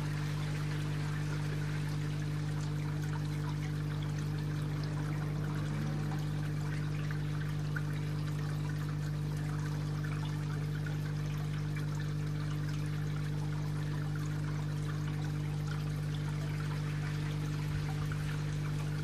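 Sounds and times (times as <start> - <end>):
low electrical hum: 0.0 - 19.0
water trickling and splashing: 0.0 - 19.0.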